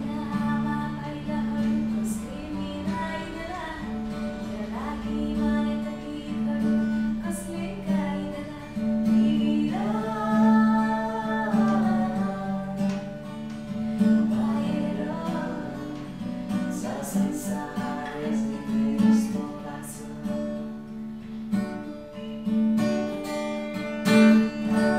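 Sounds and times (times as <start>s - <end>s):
person singing: 0.0s - 13.2s, 14.0s - 20.9s
acoustic guitar strumming: 0.0s - 24.9s.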